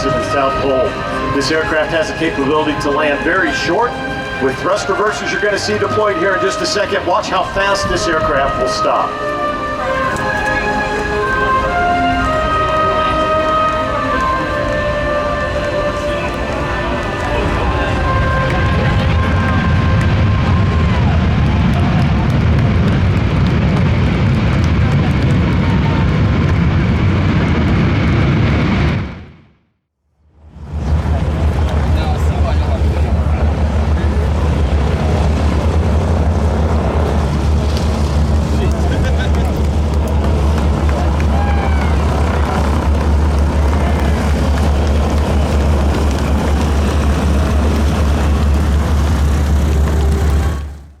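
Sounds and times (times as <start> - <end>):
jet engines roaring in reverse thrust: 0.0 - 29.4, 30.6 - 51.0.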